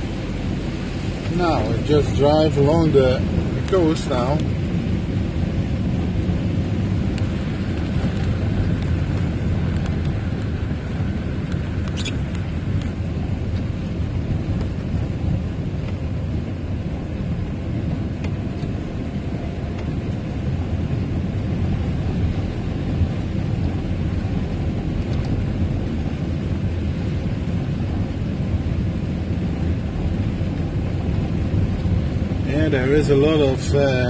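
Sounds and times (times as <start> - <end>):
van engine and road rumble: 0.0 - 34.0.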